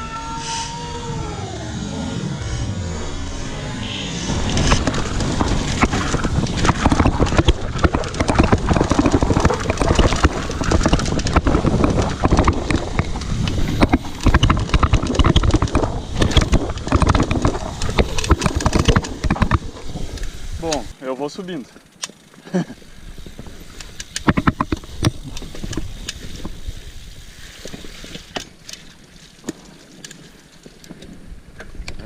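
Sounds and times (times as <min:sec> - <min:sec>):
mountain bike rattling over rocks: 0:04.3 - 0:32.0.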